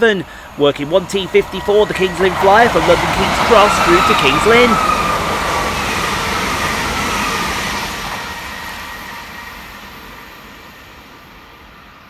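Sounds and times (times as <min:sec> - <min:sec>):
train rolling noise: 0:00.0 - 0:12.0
electric train whine: 0:00.2 - 0:12.0.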